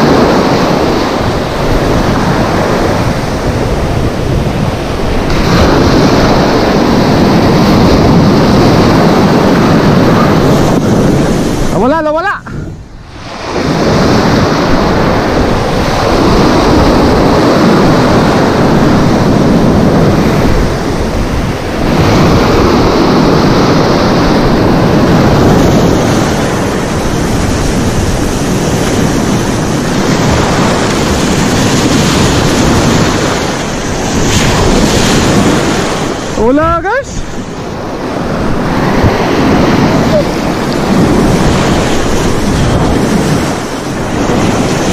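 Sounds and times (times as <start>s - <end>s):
sea surf breaking on rocks: 0.0s - 44.9s.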